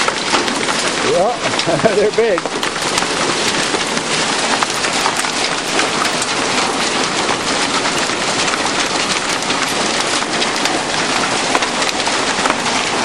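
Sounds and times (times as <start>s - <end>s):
hail clattering on hard surfaces: 0.0s - 13.0s.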